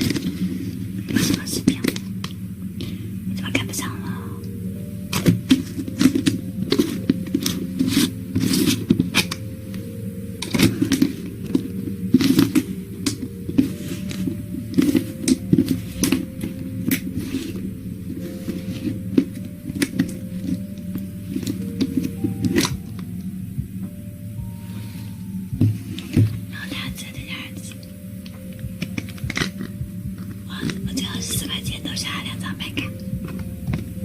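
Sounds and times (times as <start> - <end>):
soft sustained background music: 0.0 - 34.0.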